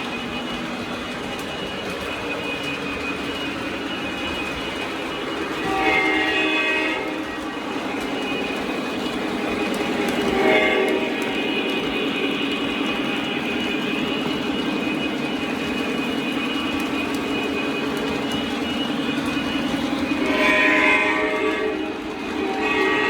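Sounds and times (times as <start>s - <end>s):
model train engine sound: 0.0s - 23.0s.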